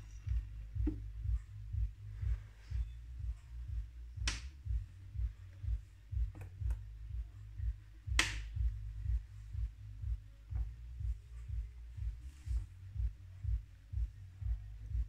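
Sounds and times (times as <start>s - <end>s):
low thudding: 0.0s - 15.0s.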